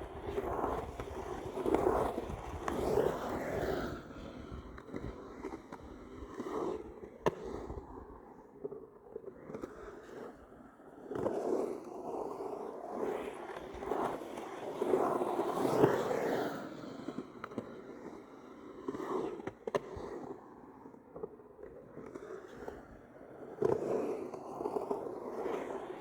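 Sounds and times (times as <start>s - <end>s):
skateboard rolling and scraping: 0.0s - 26.0s.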